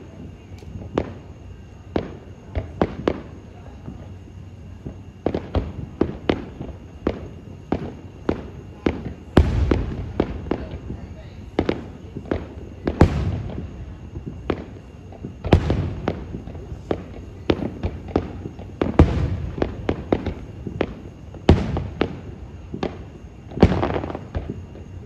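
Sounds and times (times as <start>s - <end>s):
small sharp firework bangs: 0.1s - 4.1s, 4.8s - 25.0s.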